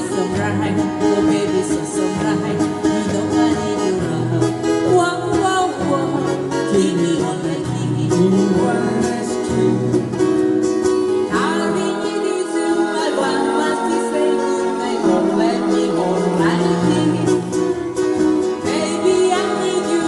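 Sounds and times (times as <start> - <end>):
acoustic guitars playing: 0.0 - 20.0.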